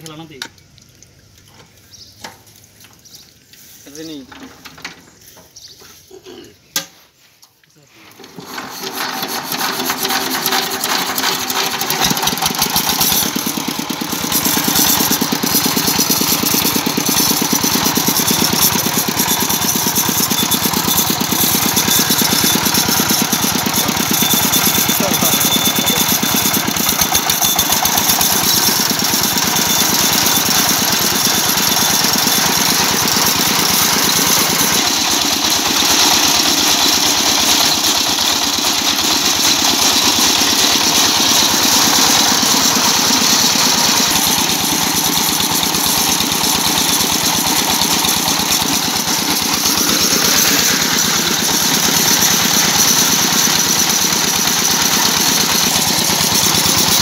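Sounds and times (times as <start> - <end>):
diesel engine knocking: 10.1 - 57.0.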